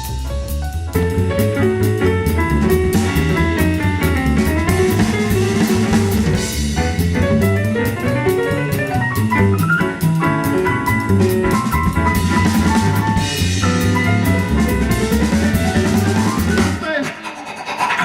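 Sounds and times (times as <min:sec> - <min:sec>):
drum kit beat: 0:00.0 - 0:18.0.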